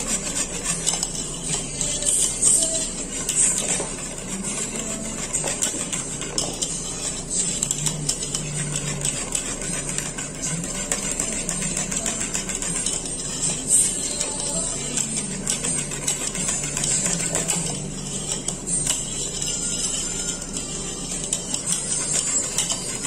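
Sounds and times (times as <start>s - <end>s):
whisk scraping a metal pan: 0.0s - 23.0s.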